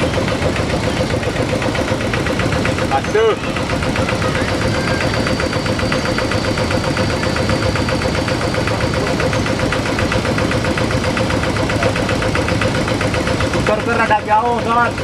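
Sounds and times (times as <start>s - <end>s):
steady whine: 0.0s - 15.0s
tractor engine chugging: 0.0s - 15.0s.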